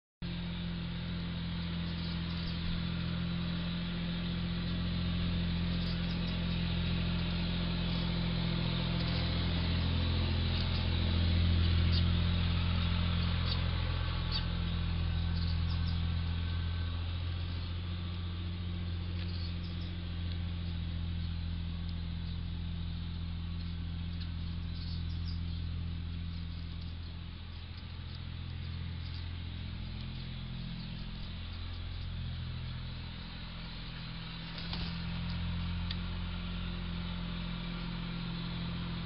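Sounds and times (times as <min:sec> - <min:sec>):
low hum: 0:00.2 - 0:39.0
small birds chirping: 0:00.3 - 0:39.0.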